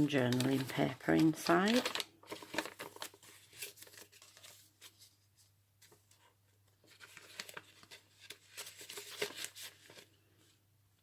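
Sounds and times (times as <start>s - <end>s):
paper pages rustling: 0.0s - 10.6s.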